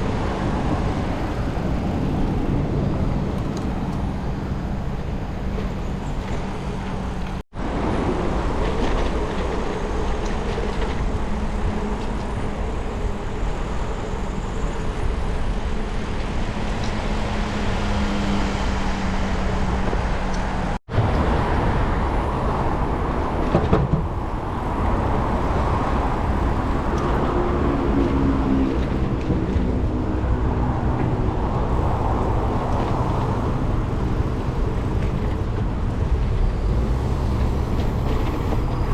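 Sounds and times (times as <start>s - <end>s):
passing traffic: 0.0s - 38.9s
road and wind noise: 0.0s - 38.9s.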